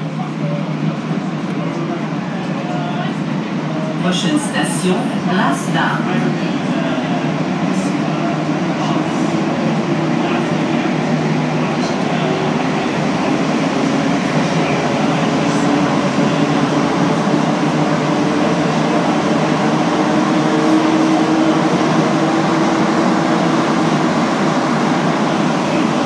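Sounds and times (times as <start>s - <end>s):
train rolling through tunnel: 0.0s - 26.0s.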